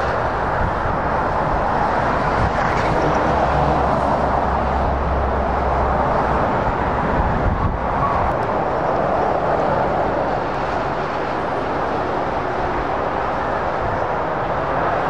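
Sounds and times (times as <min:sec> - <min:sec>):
lorry diesel engine drone: 0:00.0 - 0:15.0.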